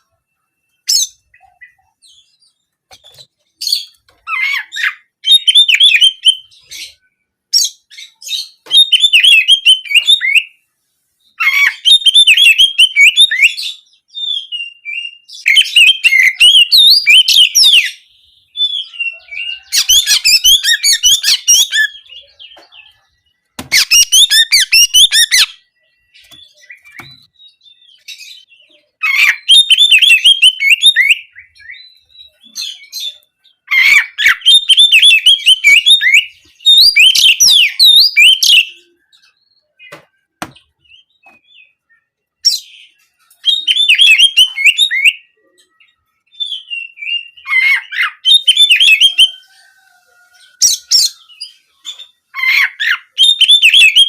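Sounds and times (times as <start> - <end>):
songbird singing rapid phrases: 0.0 - 54.0.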